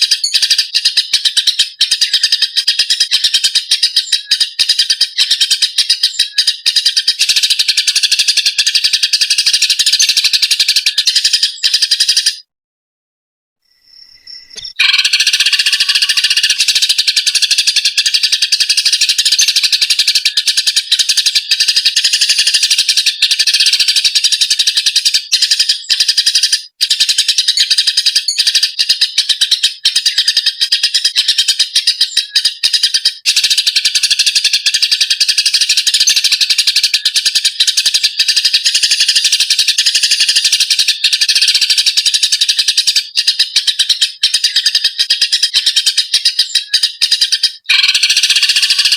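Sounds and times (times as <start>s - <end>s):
sparrows harsh chirping: 0.0s - 12.4s, 13.7s - 48.9s.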